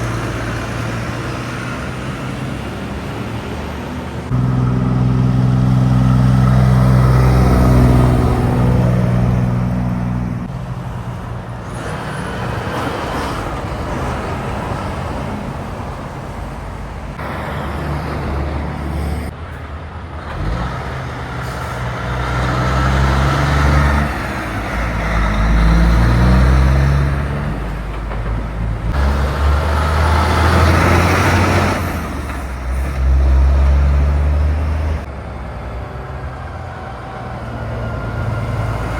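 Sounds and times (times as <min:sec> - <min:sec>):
heavy diesel trucks passing: 0:00.0 - 0:38.9
tyre and road noise: 0:00.0 - 0:38.9.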